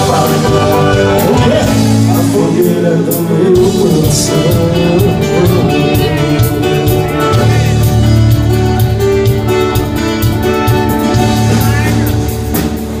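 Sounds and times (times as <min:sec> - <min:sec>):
romantic pop instrumental: 0:00.0 - 0:13.0.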